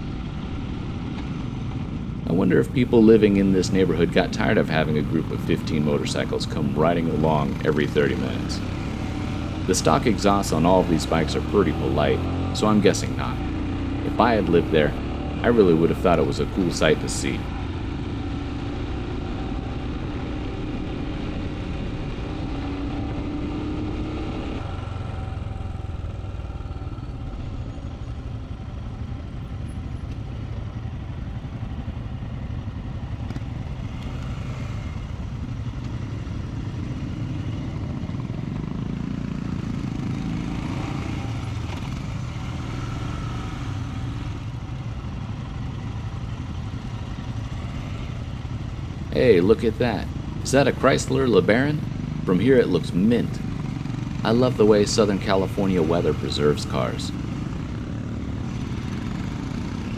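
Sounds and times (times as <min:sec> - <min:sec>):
motorcycle engine running: 0:00.0 - 0:59.9
other motorcycles riding: 0:00.0 - 0:59.9
wind and road noise: 0:00.0 - 0:59.9.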